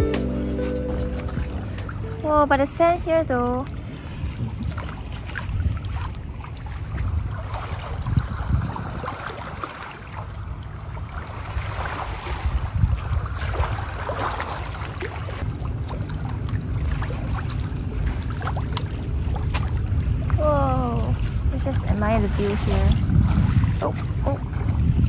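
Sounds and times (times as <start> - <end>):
wind rumbling on microphone: 0.0 - 25.0
small waves lapping on stones: 2.4 - 25.0.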